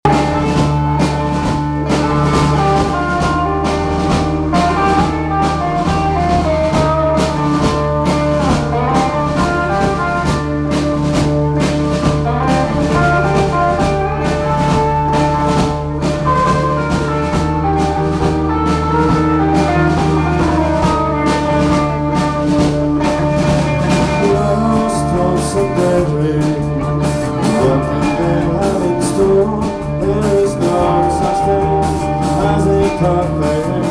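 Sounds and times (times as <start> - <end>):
drums steady beat: 0.0 - 33.9
rock band playing: 0.0 - 33.9.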